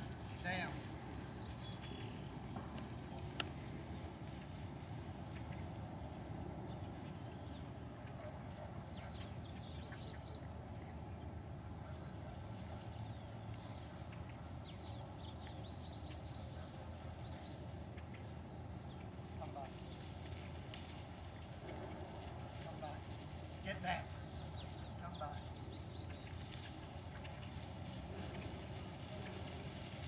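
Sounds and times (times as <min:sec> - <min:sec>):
songbirds chirping: 0:00.0 - 0:30.0
steady low rumble: 0:00.0 - 0:30.0.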